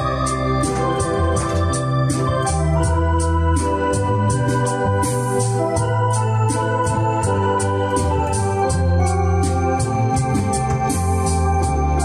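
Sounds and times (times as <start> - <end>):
electronic organ melody: 0.0 - 12.0
percussion beat ticking: 0.0 - 12.0.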